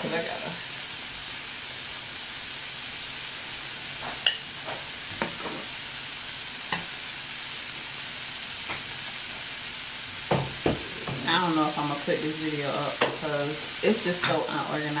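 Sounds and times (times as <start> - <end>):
broth boiling: 0.0 - 6.9, 7.5 - 15.0
food sizzling on grill: 0.0 - 15.0.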